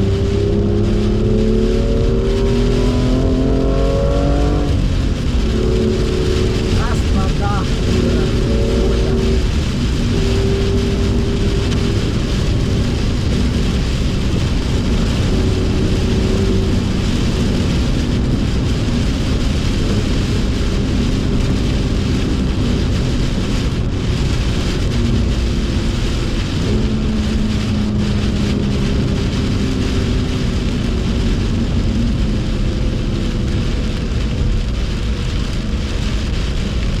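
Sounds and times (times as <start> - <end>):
car engine running: 0.0 - 37.0
rain hissing: 0.0 - 37.0
wet tyre spray: 0.0 - 37.0.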